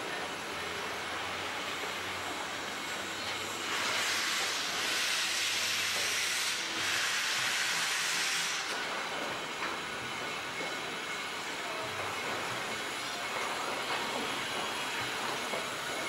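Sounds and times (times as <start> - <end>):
steam locomotive venting steam: 0.0 - 16.0.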